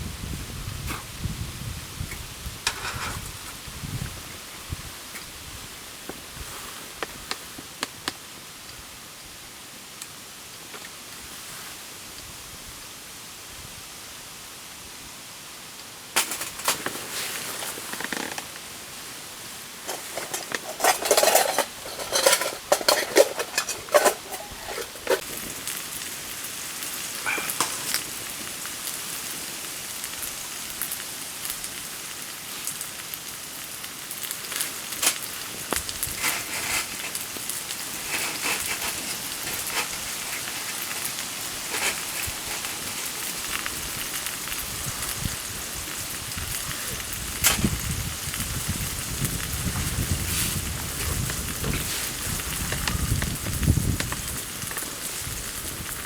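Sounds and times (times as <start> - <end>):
fire crackling: 0.0 - 8.9, 16.0 - 56.0
campfire burning with steady hiss: 0.0 - 56.0.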